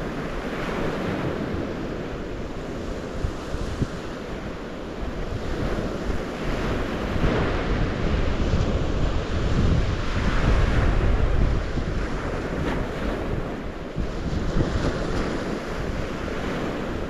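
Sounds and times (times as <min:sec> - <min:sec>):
waves washing on shore: 0:00.0 - 0:17.0
wind buffeting microphone: 0:00.0 - 0:17.0.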